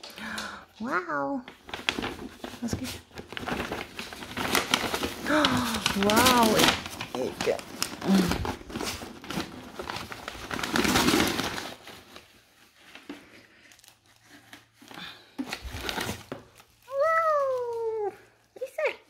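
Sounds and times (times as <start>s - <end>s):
plastic packaging crinkling: 1.5s - 19.0s.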